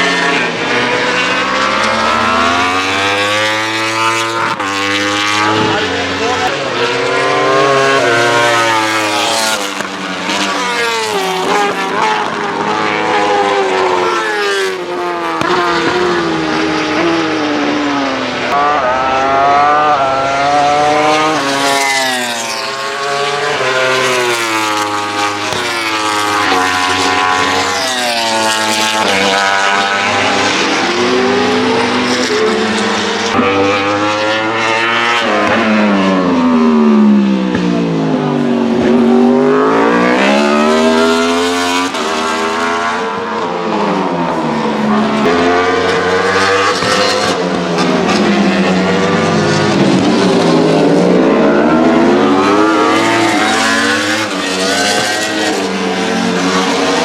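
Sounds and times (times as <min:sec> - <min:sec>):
race motorcycles passing at speed: 0:00.0 - 0:57.0.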